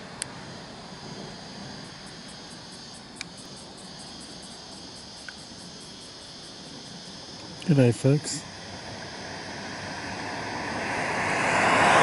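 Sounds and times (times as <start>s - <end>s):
insect chirping rapidly: 0.0s - 12.0s
steady background hiss: 0.0s - 12.0s.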